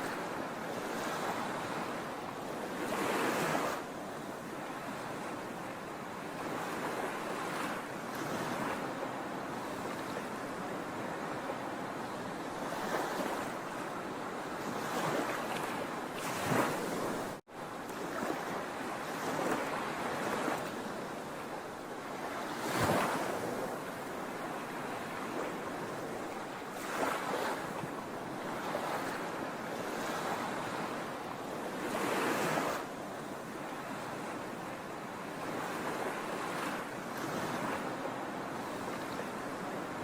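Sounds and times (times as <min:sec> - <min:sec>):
sea waves breaking on shore: 0:00.0 - 0:40.0.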